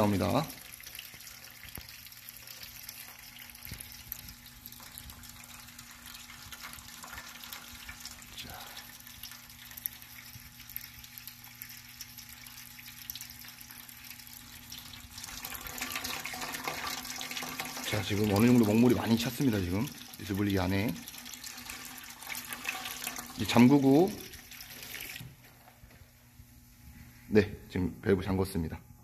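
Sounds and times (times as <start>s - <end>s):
liquid pouring into steel basin: 0.0s - 25.4s.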